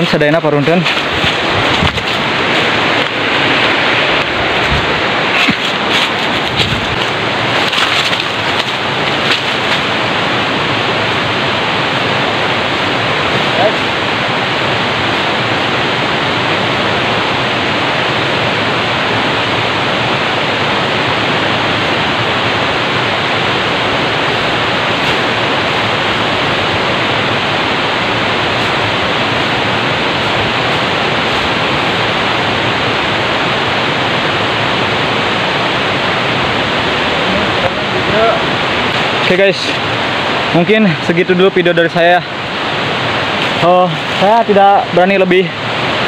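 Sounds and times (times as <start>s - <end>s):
loud rushing hiss: 0.0s - 46.0s.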